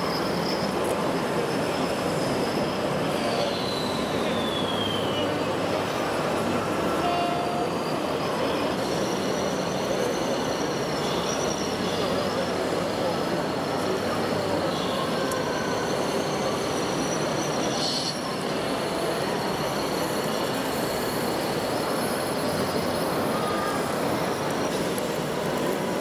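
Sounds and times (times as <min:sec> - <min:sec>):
high whine of electric motors: 0:00.0 - 0:26.0.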